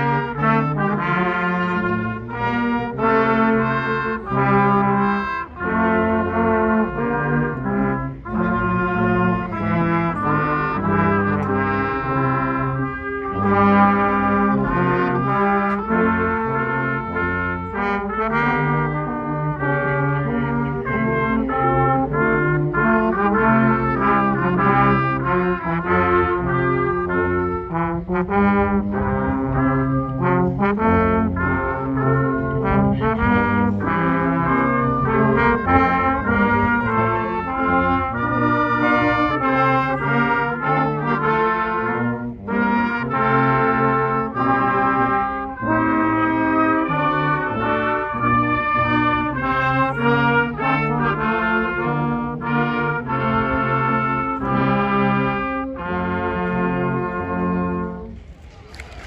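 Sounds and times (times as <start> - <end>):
brass ensemble playing: 0.0 - 59.0.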